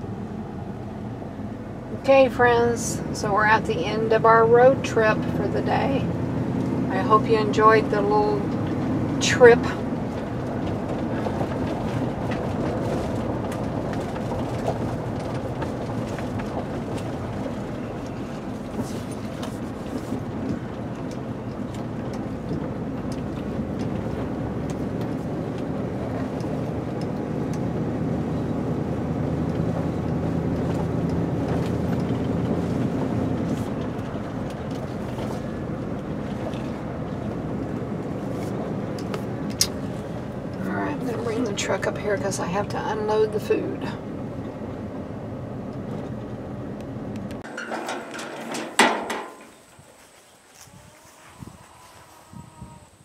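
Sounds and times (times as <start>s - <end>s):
truck engine and tyre rumble: 0.0s - 53.0s.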